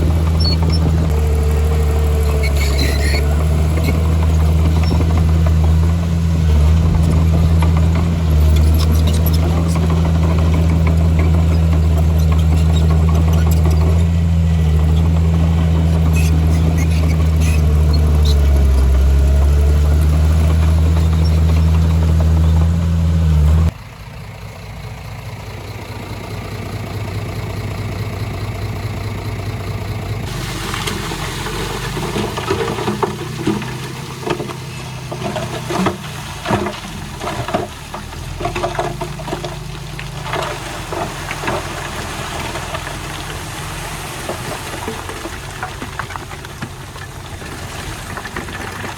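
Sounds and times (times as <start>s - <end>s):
heavy diesel engine droning: 0.0s - 48.9s
quieter engine running: 0.0s - 48.9s.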